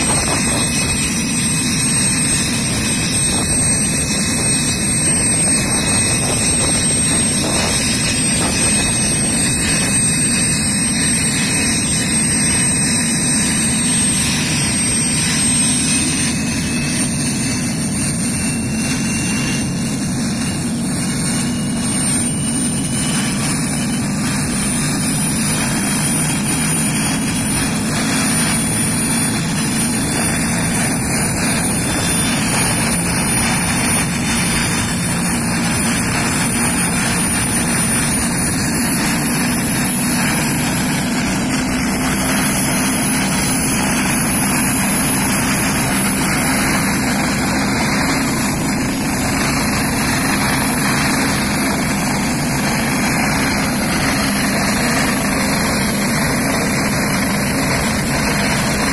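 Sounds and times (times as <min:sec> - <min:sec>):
helicopter turbine engines running: 0:00.0 - 0:58.9.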